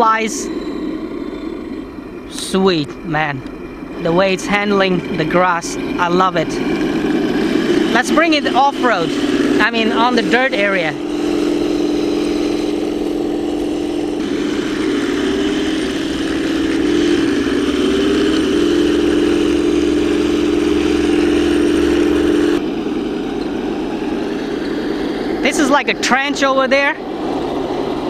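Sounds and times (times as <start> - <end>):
toy tank engine sound and electric hum: 0.0 - 28.0.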